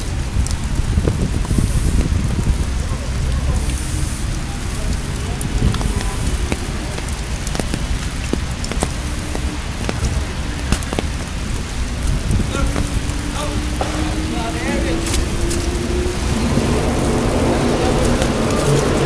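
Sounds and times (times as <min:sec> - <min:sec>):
icy drops ticking: 0:00.0 - 0:19.0
low rumble: 0:00.0 - 0:19.0.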